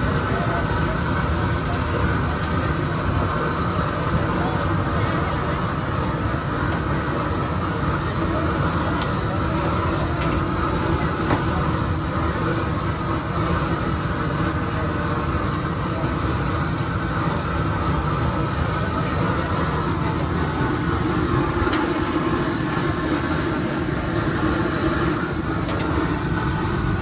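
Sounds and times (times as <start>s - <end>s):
busy street rumble: 0.0s - 27.0s.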